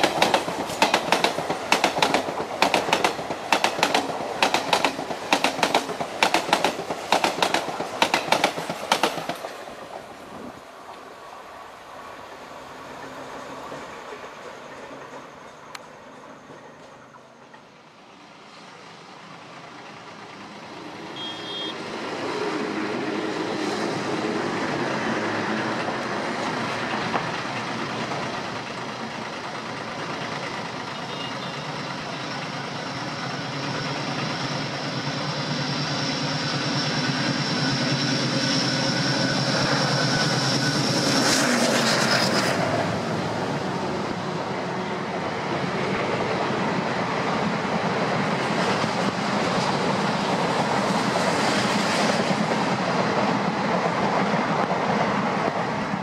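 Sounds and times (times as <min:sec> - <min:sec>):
diesel locomotive engines chugging: 0:00.0 - 0:56.0.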